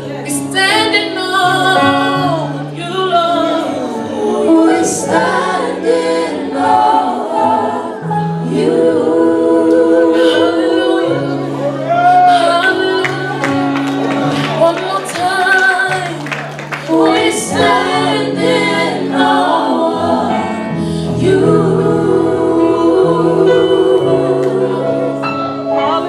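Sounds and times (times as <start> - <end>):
gospel singing: 0.0 - 26.0.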